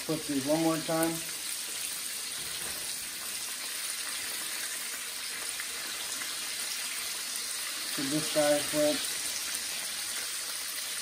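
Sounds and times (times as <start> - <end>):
steaks sizzling in frying pan: 0.0 - 11.0.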